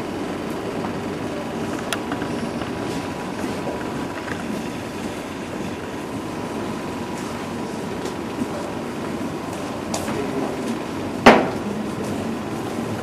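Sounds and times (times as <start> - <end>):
room noise: 0.0 - 13.0.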